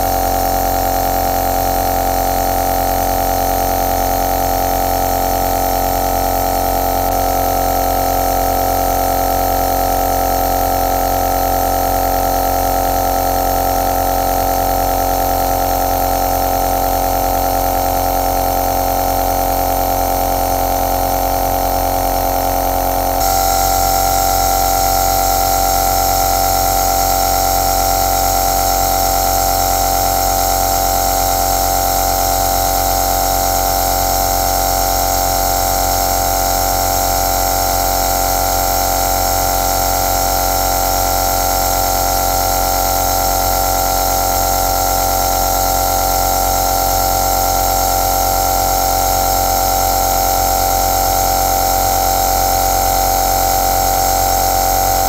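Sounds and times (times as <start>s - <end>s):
nebulizer compressor humming: 0.0s - 55.0s.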